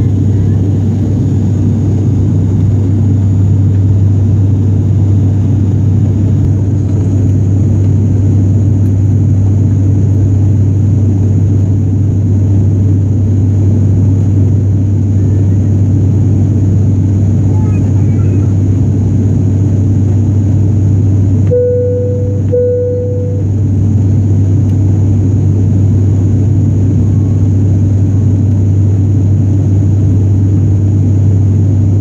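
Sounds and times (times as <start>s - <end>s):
propeller engines droning: 0.0s - 32.0s.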